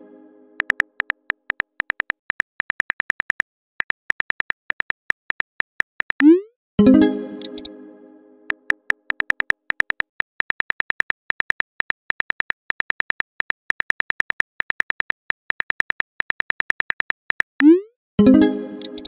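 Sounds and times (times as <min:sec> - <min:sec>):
phone keyboard typing clicks: 0:00.6 - 0:06.3, 0:07.4 - 0:07.7, 0:08.5 - 0:17.7, 0:18.8 - 0:19.0.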